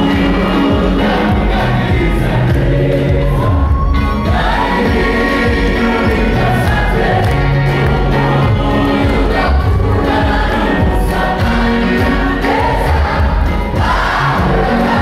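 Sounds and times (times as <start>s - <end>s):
choir singing gospel: 0.0s - 15.0s
instrumental backing with bass: 0.0s - 15.0s.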